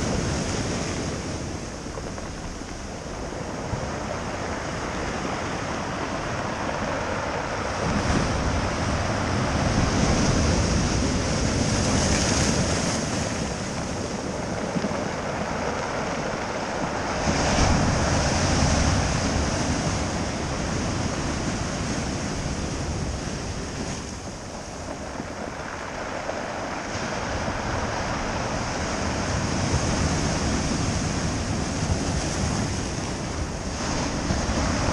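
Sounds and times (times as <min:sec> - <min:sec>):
ocean surf breaking: 0:00.0 - 0:34.9
wind rumbling on microphone: 0:00.0 - 0:34.9.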